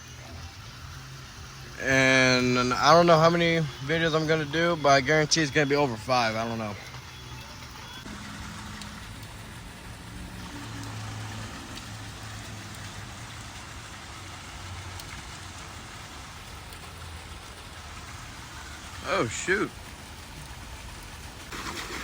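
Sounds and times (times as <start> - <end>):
low hum: 0.0 - 22.0
rain falling: 0.0 - 22.0.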